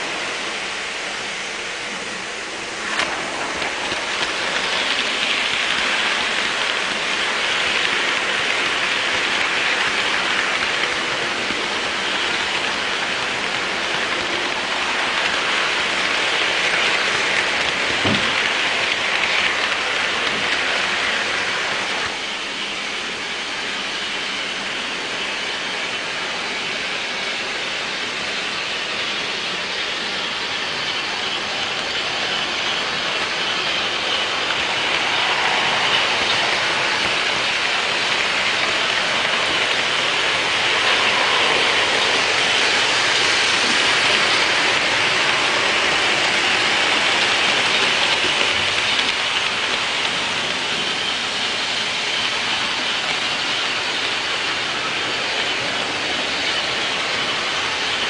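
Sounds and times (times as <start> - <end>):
model trains rolling whir: 0.0 - 58.0.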